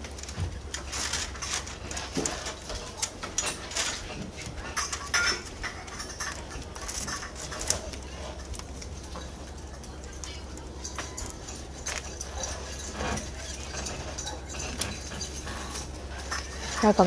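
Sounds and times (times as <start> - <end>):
bamboo blind clicking and rustling: 0.0 - 17.0.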